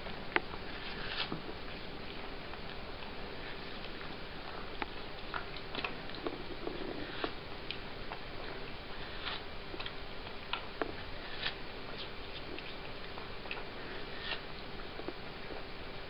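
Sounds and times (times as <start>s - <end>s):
cat chewing wet smacks: 0.0s - 15.8s
steady hiss: 0.0s - 16.0s.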